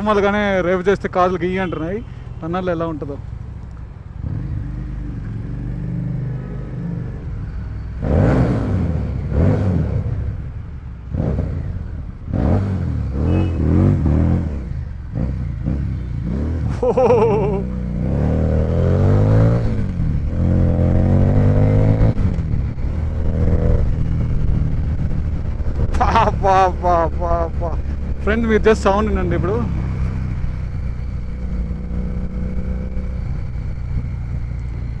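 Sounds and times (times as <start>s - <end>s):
motorcycle engine revving: 4.2s - 35.0s.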